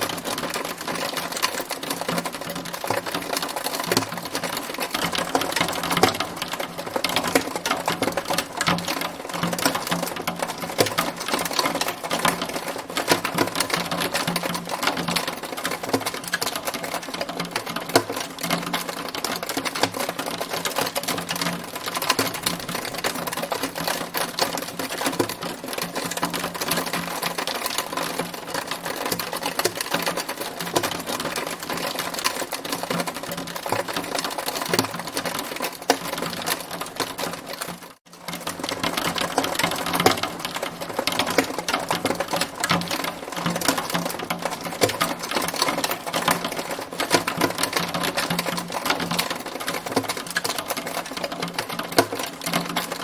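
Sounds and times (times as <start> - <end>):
hailstones pelting a hard surface: 0.0 - 53.0.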